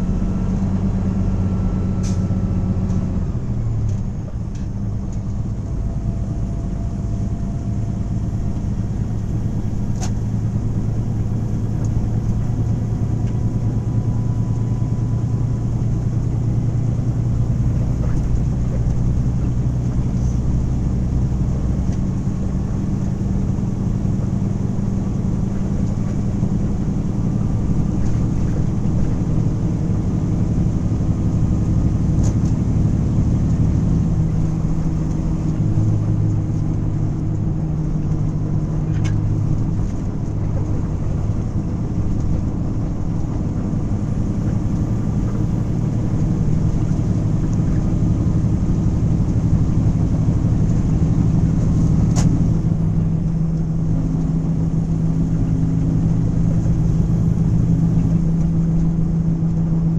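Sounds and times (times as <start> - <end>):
engine drone: 0.0 - 59.9
road noise: 0.0 - 59.9.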